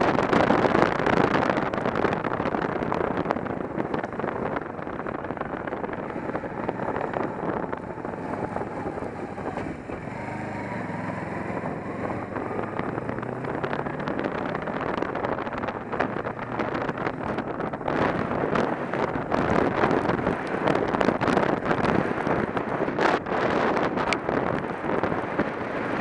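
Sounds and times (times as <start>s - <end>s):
motorcycle engine running: 0.0s - 26.0s
wind rushing on microphone: 0.0s - 26.0s.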